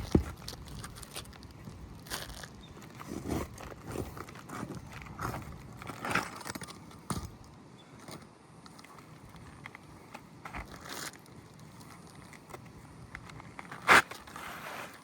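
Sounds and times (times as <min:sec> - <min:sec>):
roof shingles scraping and crackling: 0:00.0 - 0:07.4, 0:08.1 - 0:15.0.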